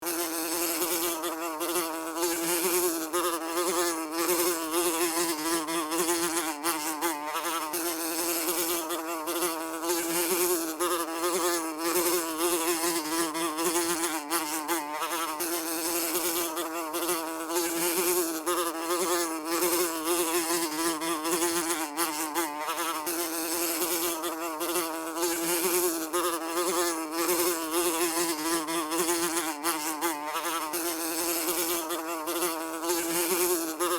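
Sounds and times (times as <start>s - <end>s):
fly buzzing: 0.0s - 33.9s.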